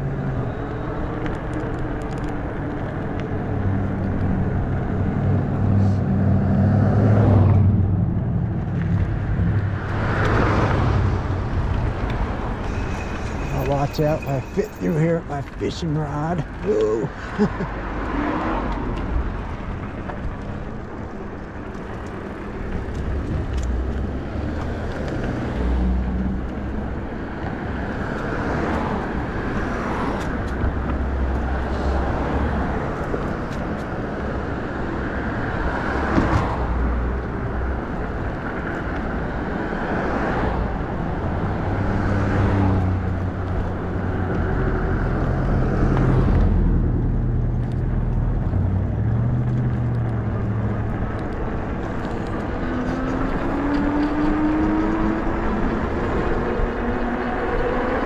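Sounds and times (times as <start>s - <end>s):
wind and rolling tyres: 0.0s - 58.0s.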